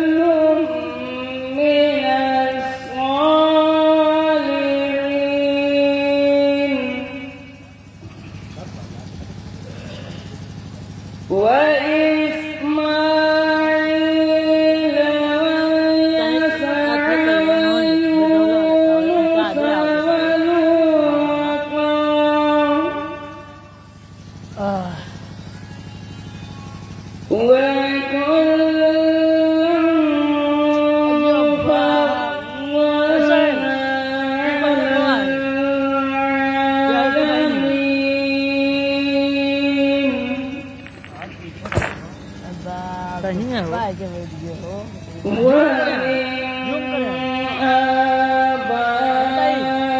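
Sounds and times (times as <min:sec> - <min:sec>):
person chanting over loudspeaker: 0:00.0 - 0:07.9, 0:11.3 - 0:25.9, 0:26.5 - 0:42.0, 0:44.9 - 0:49.9
low steady hum: 0:00.0 - 0:49.9.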